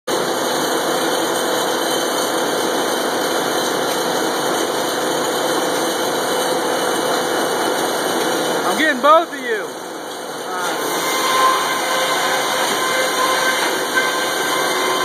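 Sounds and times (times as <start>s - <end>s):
sawmill machinery running: 0.1s - 15.0s.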